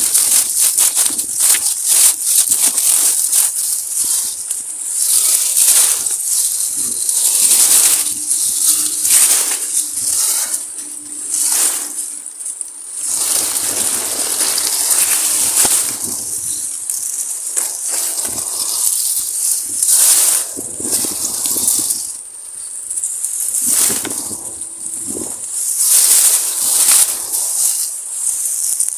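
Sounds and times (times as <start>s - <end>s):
grass and reeds rustling: 0.0s - 28.9s.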